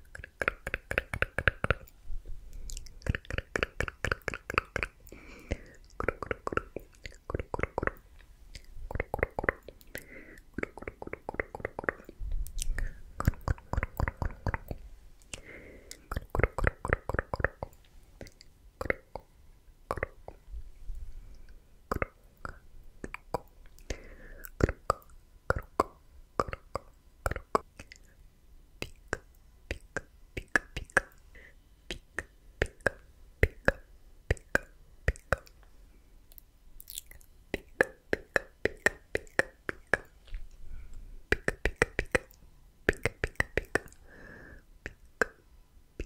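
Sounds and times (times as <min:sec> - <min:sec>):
wet tongue clicks and pops: 0:00.0 - 0:19.3, 0:19.9 - 0:20.4, 0:21.4 - 0:28.2, 0:28.8 - 0:31.2, 0:31.9 - 0:35.6, 0:36.3 - 0:40.4, 0:41.3 - 0:44.0, 0:44.8 - 0:45.4
soft whispered syllables: 0:00.0 - 0:44.1.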